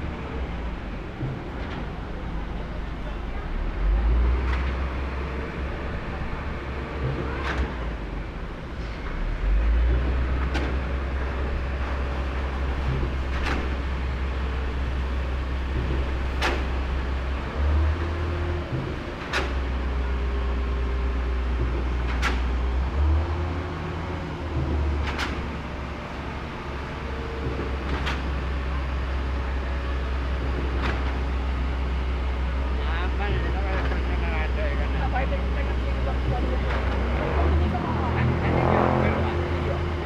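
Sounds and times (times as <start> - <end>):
low engine rumble: 0.0 - 40.0.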